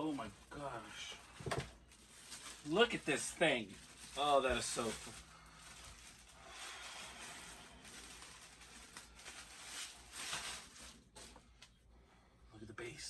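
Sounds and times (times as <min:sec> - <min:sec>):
packaging rustling: 0:00.0 - 0:11.6.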